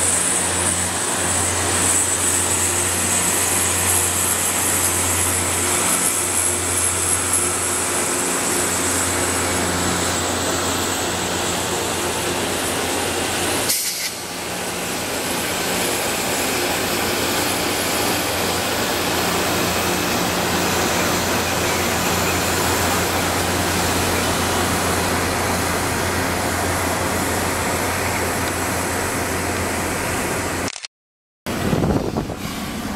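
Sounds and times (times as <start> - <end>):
rail grinding: 0.0 - 30.6.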